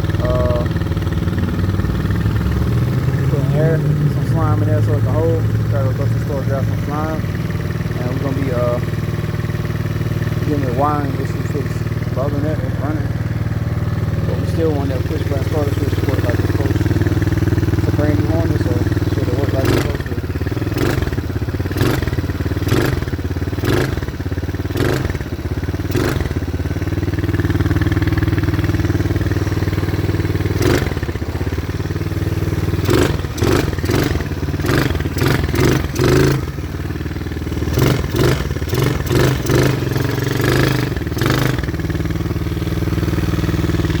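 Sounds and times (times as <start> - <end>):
small engine running: 0.0 - 44.0.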